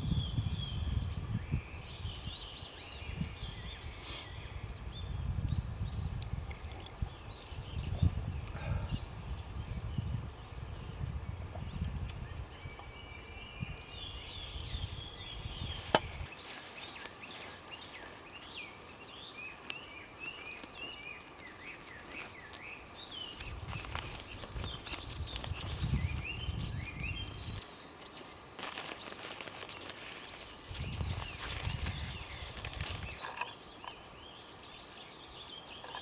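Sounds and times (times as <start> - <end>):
songbirds chirping and warbling: 0.0 - 36.0.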